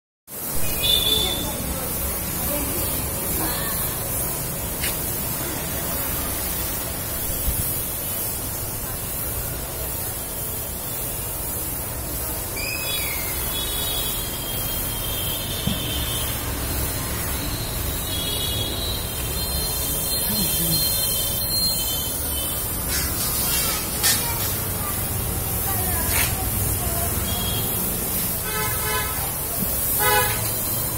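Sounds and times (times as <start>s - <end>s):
paint spray gun hissing: 0.4s - 30.9s.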